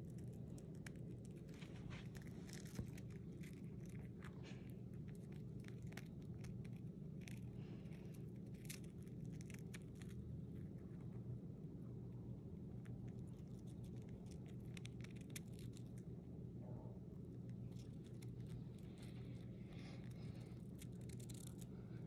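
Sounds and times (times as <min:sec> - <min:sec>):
hamster nibbling cracker: 0:00.0 - 0:22.0
low hum: 0:00.0 - 0:22.0.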